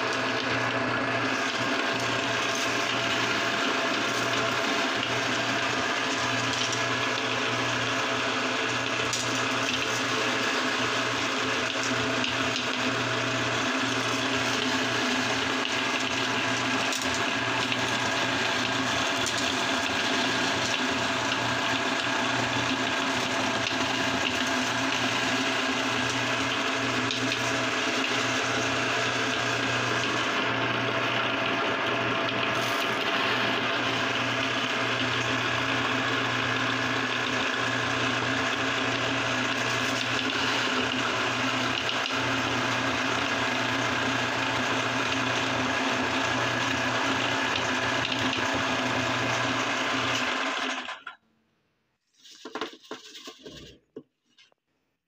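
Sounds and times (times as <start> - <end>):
meat grinder motor hum: 0.0 - 51.2.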